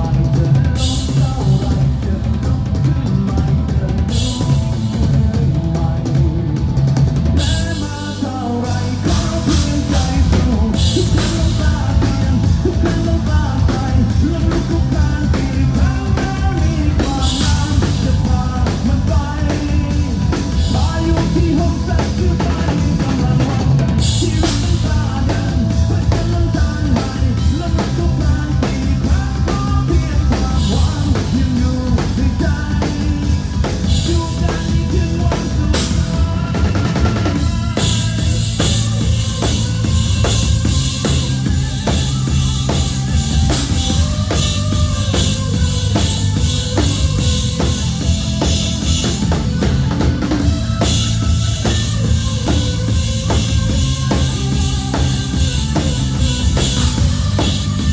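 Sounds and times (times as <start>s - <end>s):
drum kit beat: 0.0s - 57.9s.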